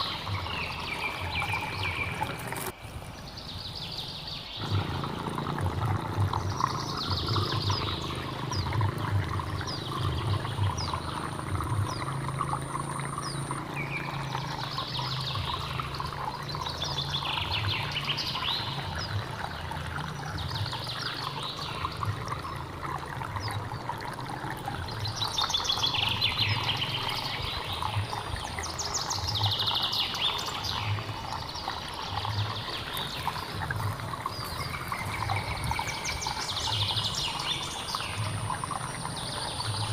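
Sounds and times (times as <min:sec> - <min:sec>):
birds chirping: 0:00.0 - 0:39.9
water flowing: 0:00.0 - 0:39.9.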